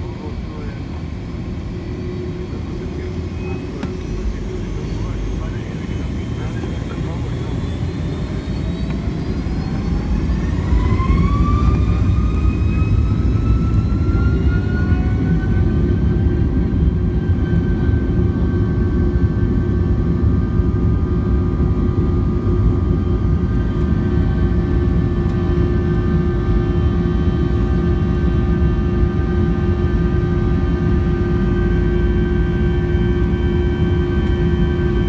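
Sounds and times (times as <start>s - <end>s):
jet engines whining: 0.0s - 35.0s
loud engine rumble: 0.0s - 35.0s.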